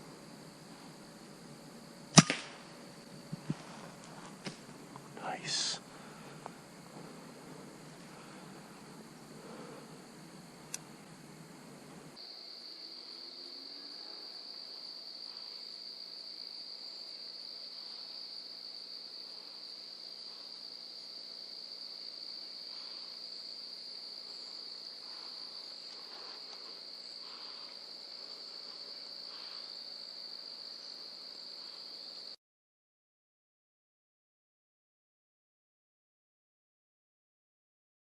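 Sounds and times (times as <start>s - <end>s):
crickets trilling: 0.0s - 32.4s.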